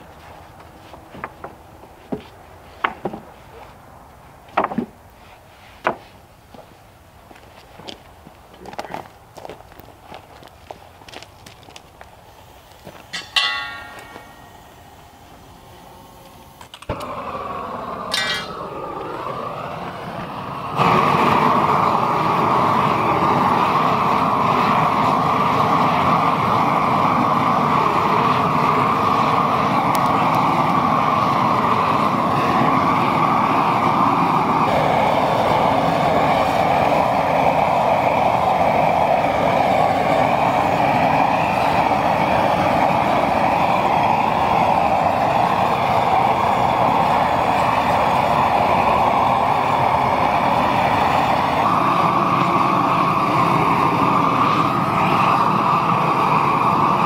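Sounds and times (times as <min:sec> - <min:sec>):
propane torch roaring: 0:00.0 - 0:57.0.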